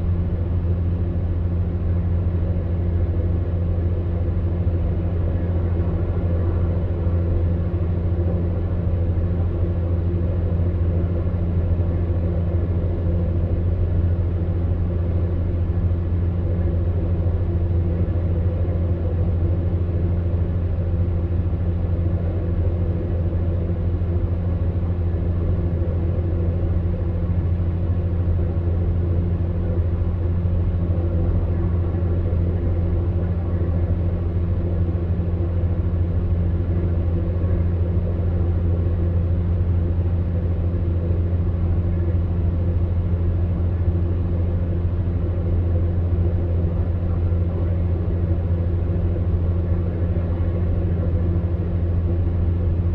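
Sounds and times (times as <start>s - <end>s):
fan heater motor hum: 0.0s - 52.9s.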